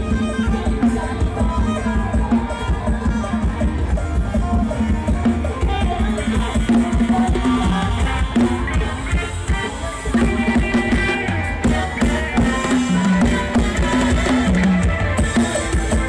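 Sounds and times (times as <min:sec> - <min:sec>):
loud music with drums and bass: 0:00.0 - 0:16.0.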